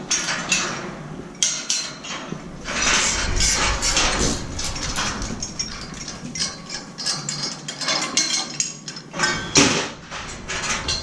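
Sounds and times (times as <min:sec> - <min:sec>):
metal clatter: 0:00.0 - 0:11.0
scaffold tubes clinking and knocking: 0:00.0 - 0:11.0.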